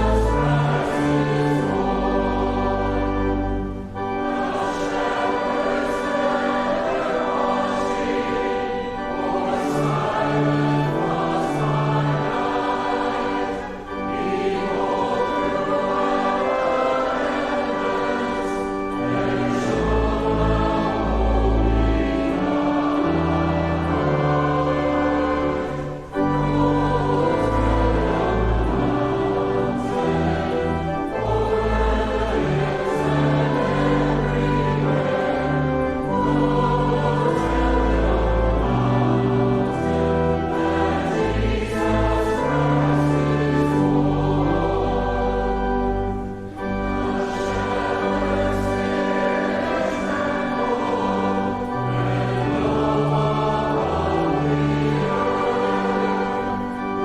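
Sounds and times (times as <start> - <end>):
congregation singing a hymn: 0.0 - 57.0
instrumental accompaniment: 0.0 - 57.0.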